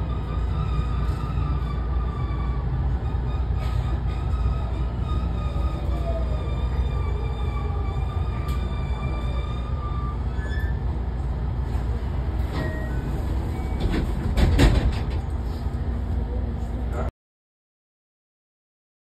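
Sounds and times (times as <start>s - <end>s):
wheels rumbling on rail: 0.0s - 17.1s.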